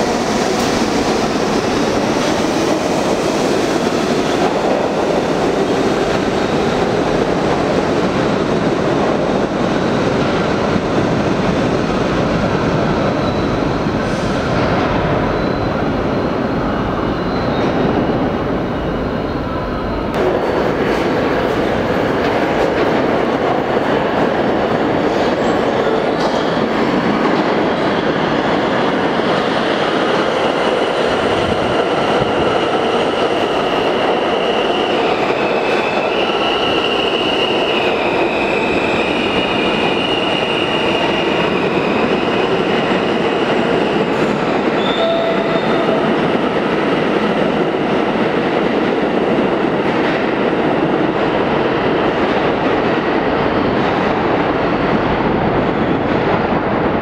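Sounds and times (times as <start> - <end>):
subway train rumbling: 0.0 - 57.0.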